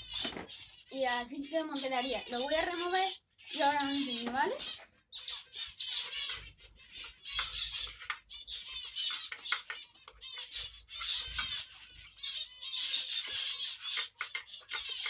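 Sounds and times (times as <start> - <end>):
finches chirping and twittering: 0.0 - 15.0.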